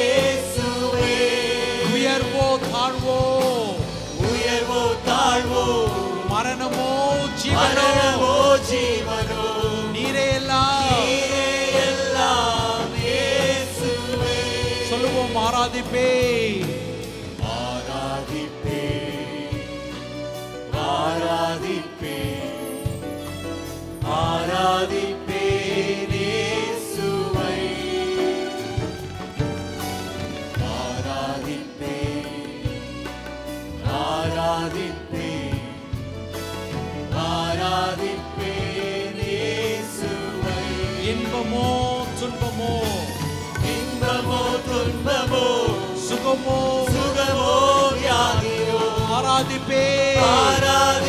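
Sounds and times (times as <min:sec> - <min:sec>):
voices singing together: 0:00.0 - 0:23.0, 0:24.0 - 0:29.1, 0:30.6 - 0:36.2, 0:37.0 - 0:51.0
drums: 0:00.0 - 0:51.0
keyboard: 0:00.0 - 0:51.0.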